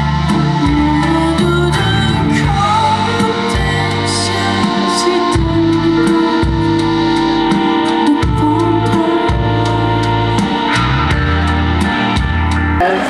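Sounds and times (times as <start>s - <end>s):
drums with cymbal hits: 0.0s - 13.0s
keyboards: 0.0s - 13.0s
low bass notes: 0.0s - 13.0s.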